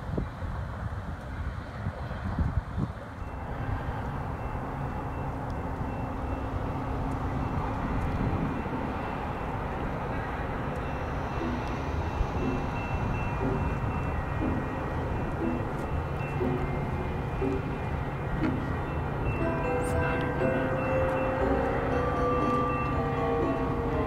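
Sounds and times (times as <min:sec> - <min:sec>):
distant train rumbling: 0:00.0 - 0:24.0.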